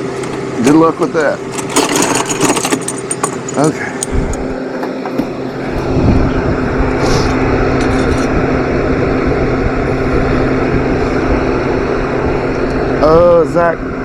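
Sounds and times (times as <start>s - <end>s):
mechanical running hum: 0.0s - 14.0s.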